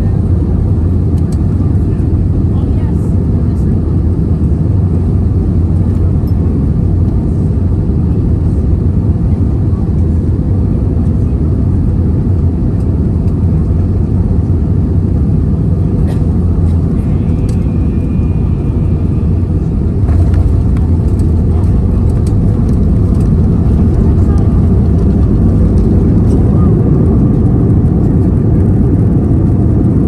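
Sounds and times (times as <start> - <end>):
aircraft cabin engine rumble: 0.0 - 30.0.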